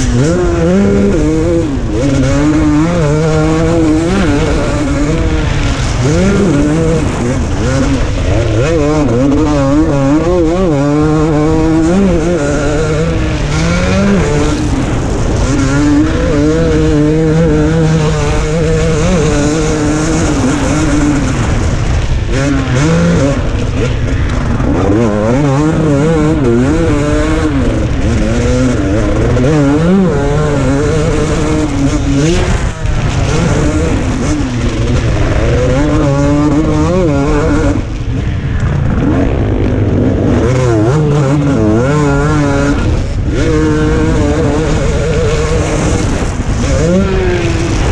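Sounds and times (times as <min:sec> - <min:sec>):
motocross engine revving: 0:00.0 - 0:47.9.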